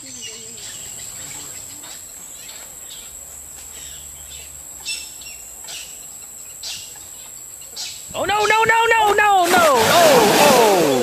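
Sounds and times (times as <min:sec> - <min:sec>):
high-pitched insect chorus: 0:00.0 - 0:09.8.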